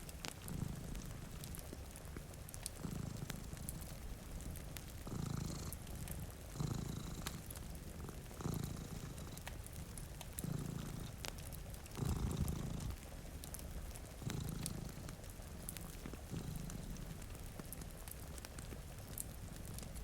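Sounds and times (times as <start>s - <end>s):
cat purring: 0.0s - 20.0s
fireplace crackling: 0.0s - 20.0s
rain hiss: 0.0s - 20.0s.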